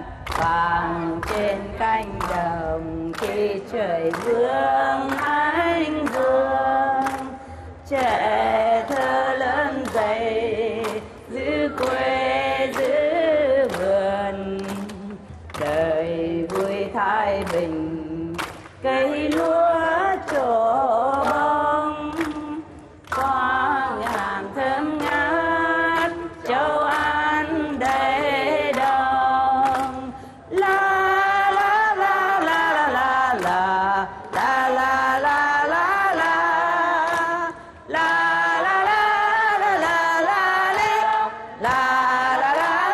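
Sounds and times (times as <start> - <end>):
woman singing unaccompanied: 0.0 - 42.9.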